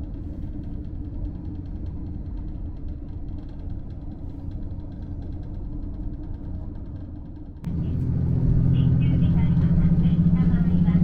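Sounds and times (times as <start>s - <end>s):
diesel railcar engine rumbling: 0.0s - 11.0s.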